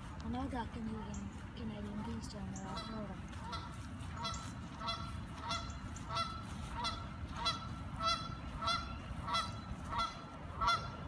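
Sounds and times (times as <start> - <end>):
geese honking: 1.8 - 11.0.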